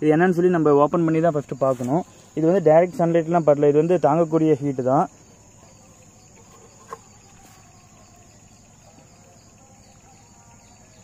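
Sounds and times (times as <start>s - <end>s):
high-pitched insect trilling: 0.0s - 11.0s.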